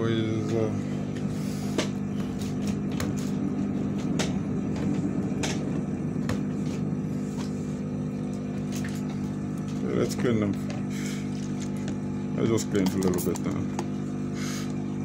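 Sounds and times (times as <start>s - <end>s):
electric equipment hum: 0.0s - 15.0s.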